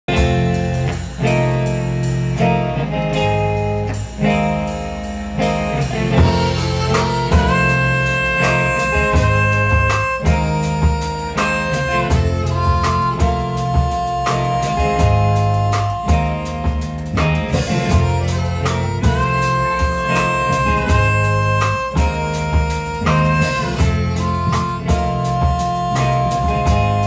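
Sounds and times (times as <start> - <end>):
bass guitar: 0.0 - 27.0
drum kit with cymbals: 0.1 - 27.0
electric guitar notes: 0.1 - 27.0.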